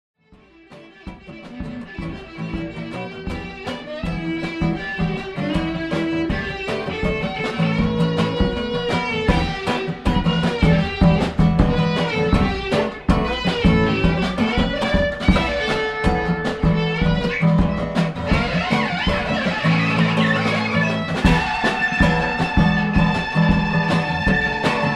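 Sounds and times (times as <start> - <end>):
acoustic guitar strumming: 0.3 - 24.9
electric violin long notes: 0.4 - 24.9.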